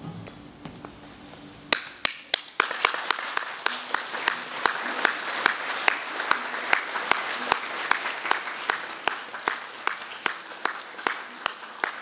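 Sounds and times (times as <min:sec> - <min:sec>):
audience applause: 0:01.7 - 0:12.0
sharp single claps: 0:01.7 - 0:12.0.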